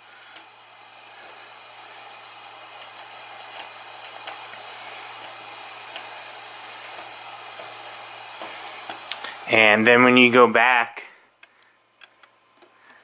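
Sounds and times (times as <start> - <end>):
steady whirring hiss: 0.0 - 13.0.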